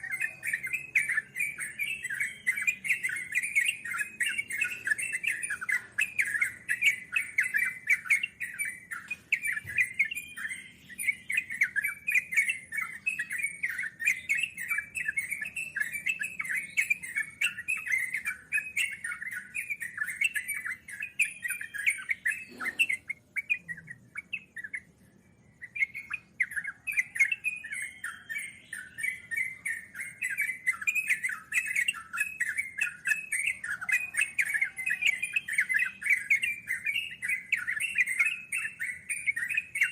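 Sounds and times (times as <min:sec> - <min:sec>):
bird song bubbling chattering: 0:00.0 - 0:39.9.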